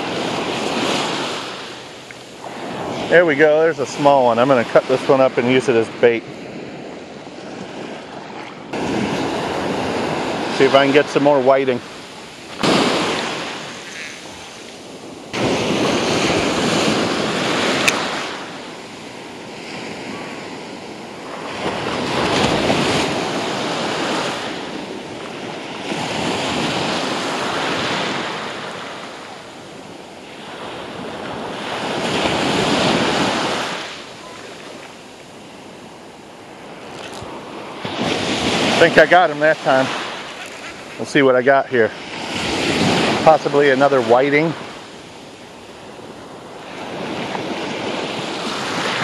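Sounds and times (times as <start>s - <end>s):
surf washing up beach: 0.0s - 49.0s.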